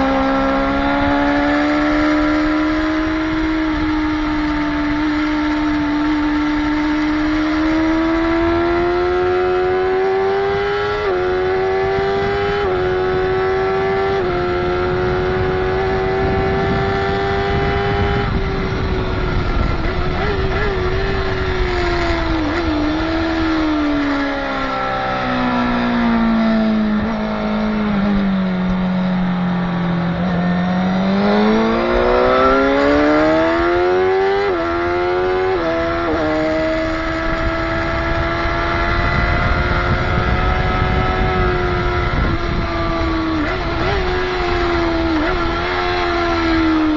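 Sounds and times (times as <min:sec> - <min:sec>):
motorcycle engine revving: 0:00.0 - 0:46.9
wind and road rush: 0:00.0 - 0:46.9.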